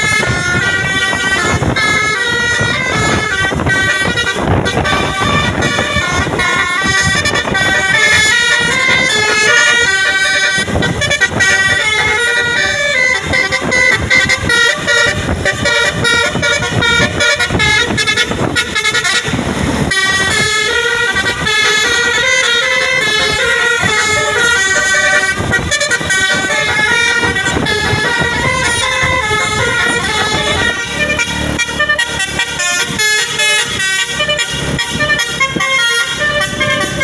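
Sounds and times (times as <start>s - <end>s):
bus engine rumble: 0.0s - 37.0s
multi-tone air horn melody: 0.0s - 37.0s
traffic: 0.0s - 37.0s.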